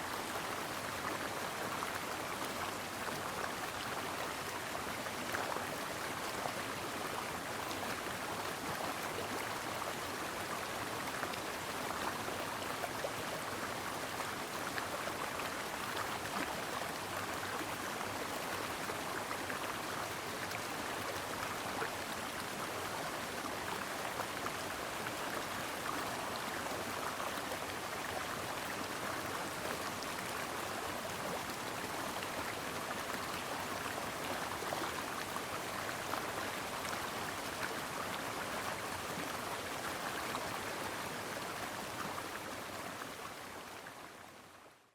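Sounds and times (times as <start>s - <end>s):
brook babbling over stones: 0.0s - 44.7s.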